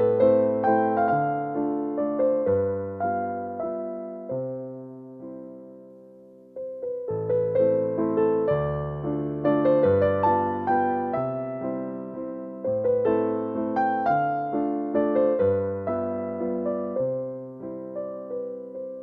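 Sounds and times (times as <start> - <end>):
electric piano music: 0.0 - 19.0.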